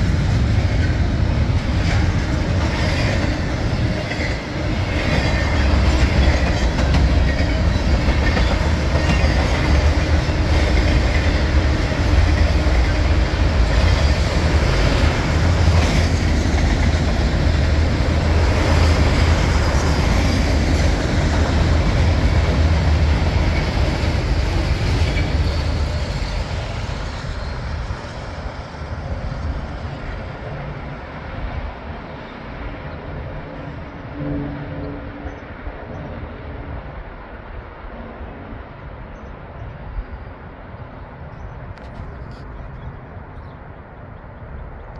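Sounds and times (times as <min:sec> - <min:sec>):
freight train wheels rumbling on rails: 0:00.0 - 0:44.9.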